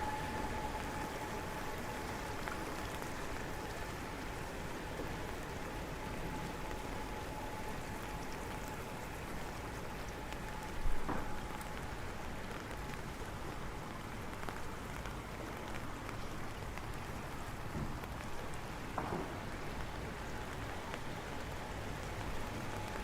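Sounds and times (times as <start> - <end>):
faint steady tone: 0.0 - 15.8, 18.3 - 23.0
rain pattering on surfaces: 0.0 - 23.0.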